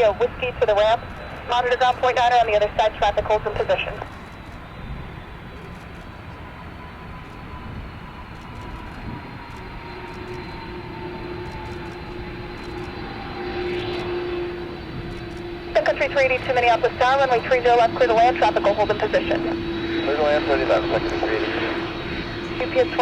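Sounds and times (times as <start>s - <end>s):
jet engines rushing with whine: 0.0s - 23.0s.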